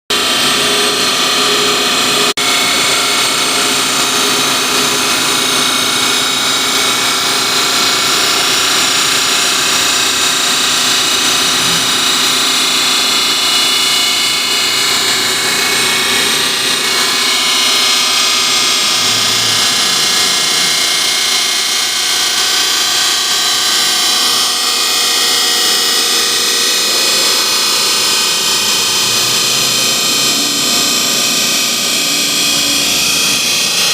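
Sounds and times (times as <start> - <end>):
cnc router spindle whine: 0.1 - 33.9.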